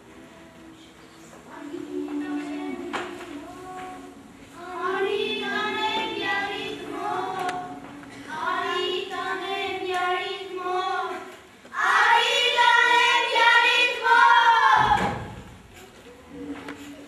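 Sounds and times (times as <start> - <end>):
girls singing: 0.1 - 15.7.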